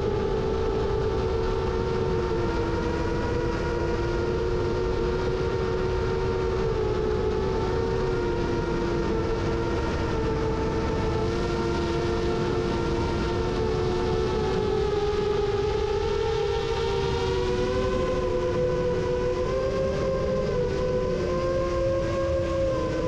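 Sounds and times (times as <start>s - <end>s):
constant rushing noise: 0.0s - 23.0s
drone motors whining: 0.0s - 23.0s.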